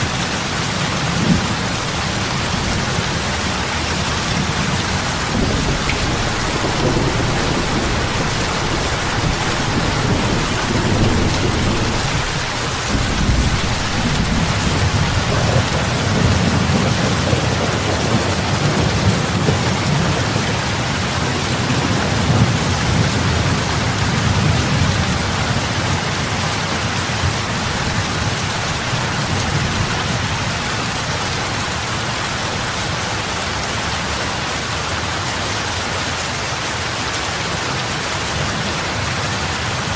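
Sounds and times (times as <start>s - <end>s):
heavy rain on lake water: 0.0s - 39.9s.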